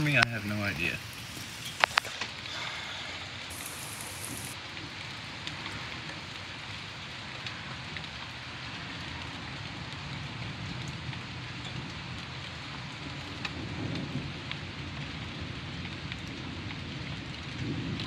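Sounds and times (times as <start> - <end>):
rain falling on trees: 0.0 - 18.0.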